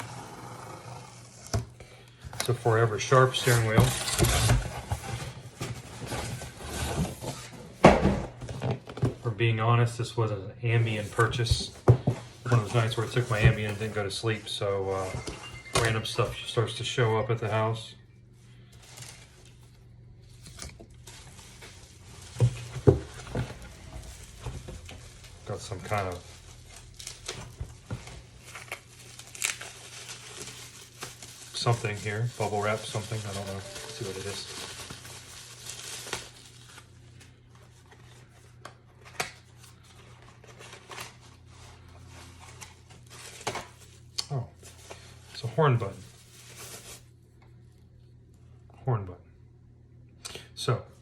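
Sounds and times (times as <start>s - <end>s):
packaging rustling and scraping: 0.0s - 7.8s, 10.8s - 17.6s, 18.5s - 47.2s.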